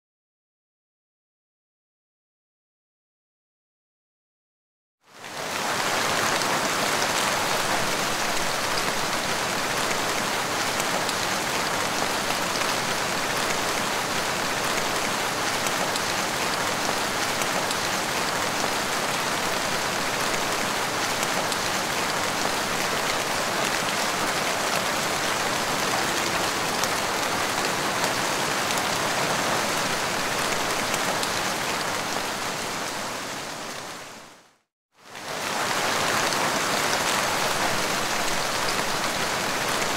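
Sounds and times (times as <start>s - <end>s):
heavy rain pouring on street: 5.1s - 39.9s.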